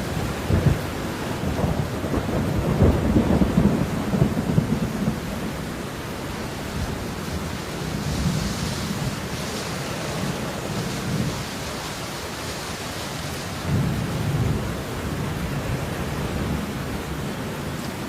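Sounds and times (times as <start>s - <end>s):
heavy rain hiss: 0.0s - 18.0s.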